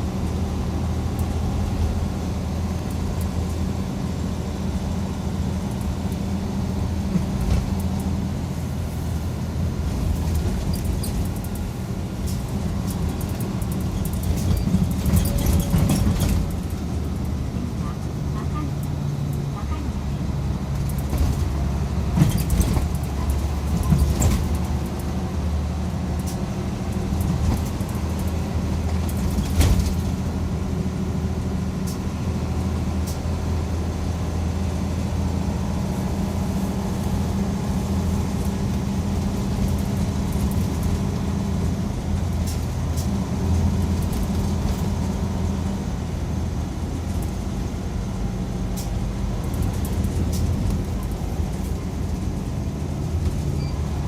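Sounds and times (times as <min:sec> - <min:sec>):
bus engine droning: 0:00.0 - 0:54.0.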